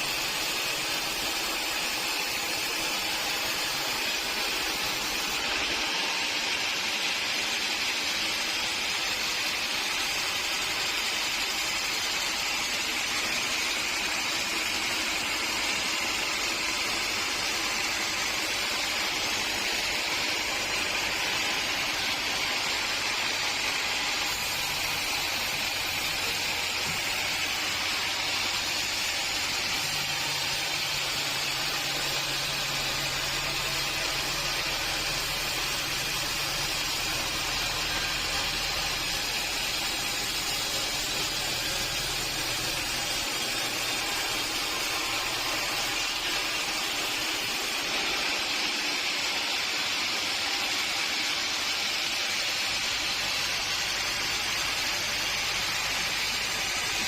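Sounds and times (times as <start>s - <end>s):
machinery hiss: 0.0s - 57.0s.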